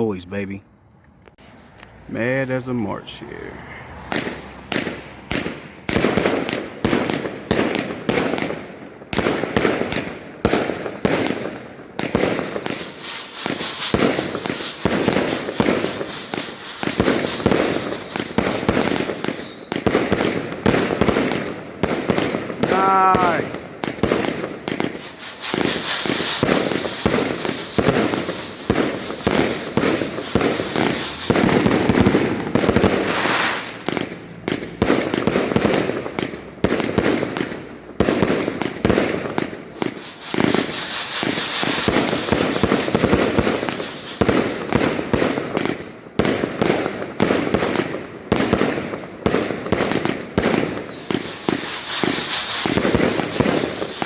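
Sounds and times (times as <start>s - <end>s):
firework cake shots: 4.1s - 54.0s.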